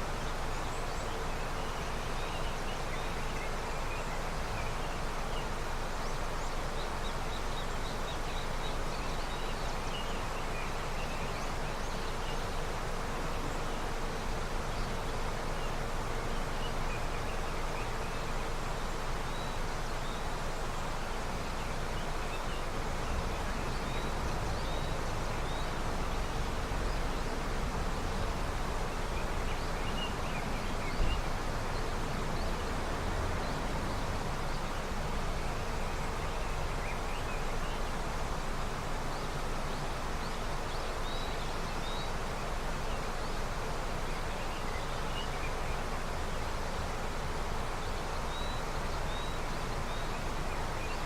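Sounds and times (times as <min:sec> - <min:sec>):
river water rushing: 0:00.0 - 0:51.0.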